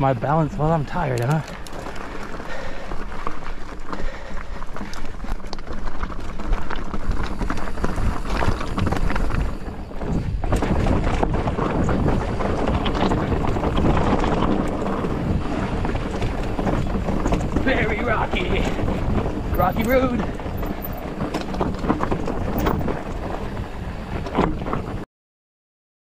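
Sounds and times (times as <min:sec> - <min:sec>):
bike rattling over bumps: 0:00.0 - 0:25.0
tyres crunching on gravel: 0:00.0 - 0:25.0
wind buffeting microphone: 0:00.0 - 0:25.0.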